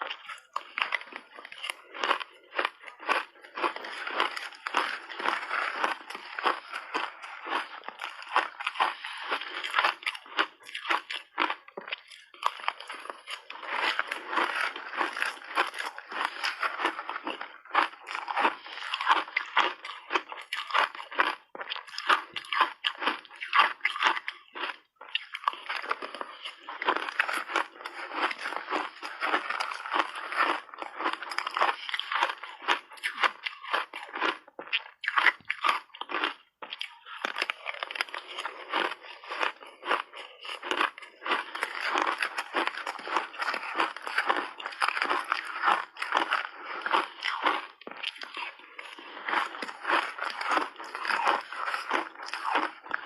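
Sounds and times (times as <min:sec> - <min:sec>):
chewing crunchy ice: 0:00.0 - 0:53.0.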